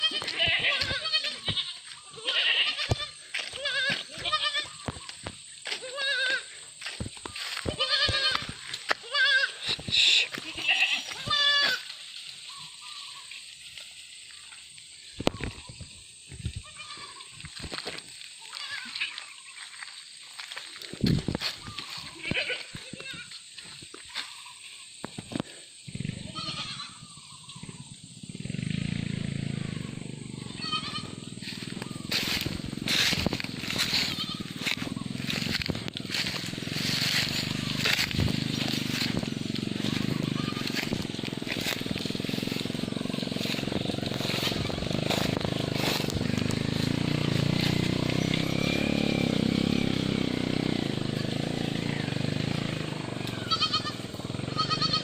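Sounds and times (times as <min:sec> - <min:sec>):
goats bleating: 0:00.0 - 0:13.4, 0:16.6 - 0:17.8, 0:18.4 - 0:19.6, 0:21.4 - 0:23.6, 0:26.0 - 0:27.2, 0:29.4 - 0:55.0.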